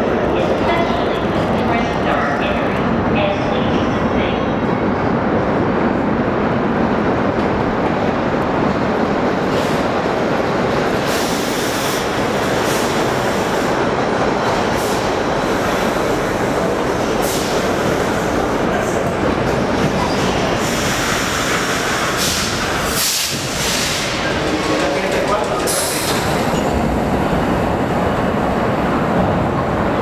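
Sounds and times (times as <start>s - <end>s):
steel wheels rumbling on rail: 0.0s - 30.0s.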